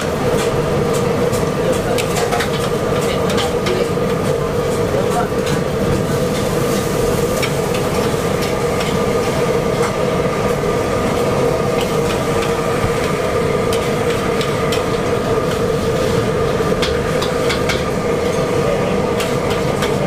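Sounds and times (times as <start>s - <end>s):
burner humming: 0.0s - 20.0s.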